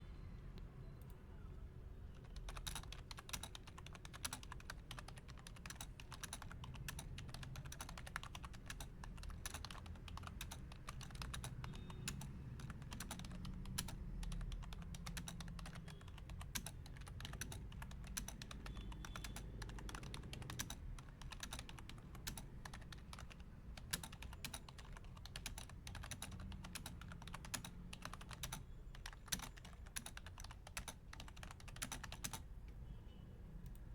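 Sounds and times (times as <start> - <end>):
fast typing on keyboard: 2.2 - 32.5.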